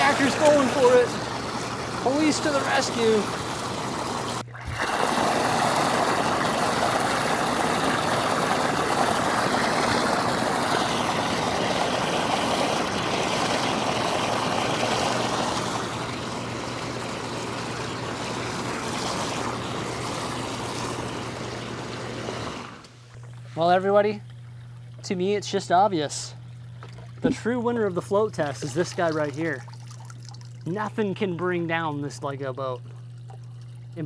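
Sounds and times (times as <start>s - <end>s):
hot tub jets churning water: 0.0s - 34.0s
low steady hum: 0.0s - 34.0s.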